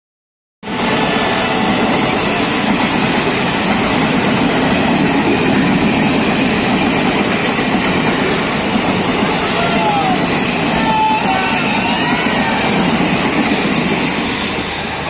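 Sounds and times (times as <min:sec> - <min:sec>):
train wheels rushing on rails: 0:00.6 - 0:15.0.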